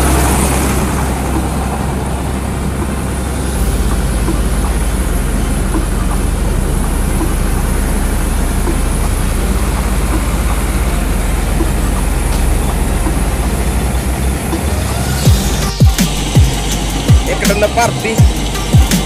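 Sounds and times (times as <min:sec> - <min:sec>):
combine harvester engine hum: 0:00.0 - 0:19.0.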